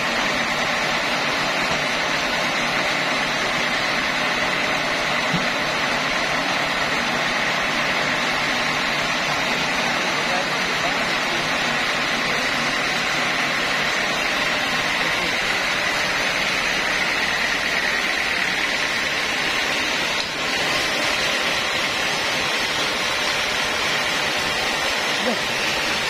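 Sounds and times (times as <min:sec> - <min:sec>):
band sawmill running: 0:00.0 - 0:26.0.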